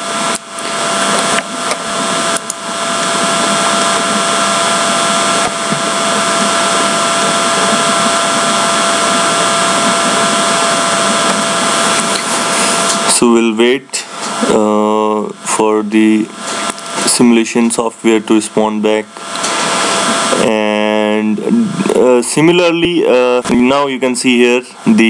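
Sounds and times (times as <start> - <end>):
whirring machine: 0.0 - 25.0.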